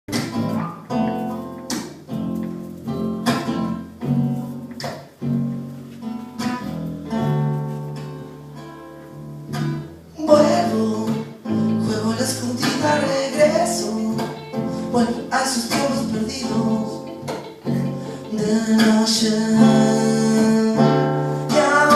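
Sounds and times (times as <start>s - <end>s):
acoustic guitar plucking: 0.1s - 21.9s.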